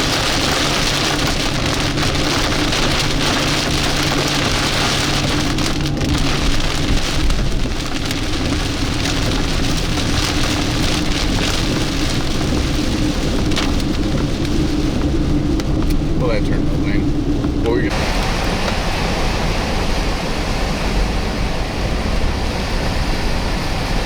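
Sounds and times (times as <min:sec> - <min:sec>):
engine and road noise hum: 0:00.0 - 0:24.0
rain falling on a car: 0:00.0 - 0:24.0.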